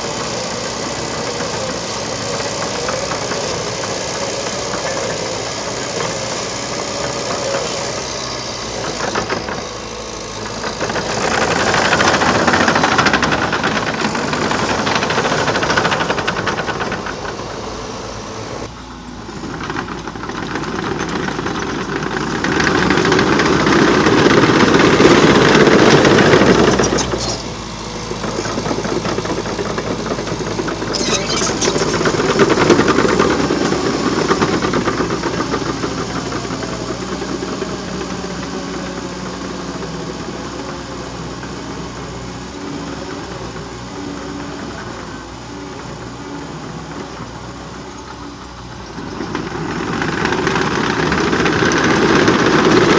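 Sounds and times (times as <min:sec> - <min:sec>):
dozer diesel engine under load: 0:00.0 - 0:52.9.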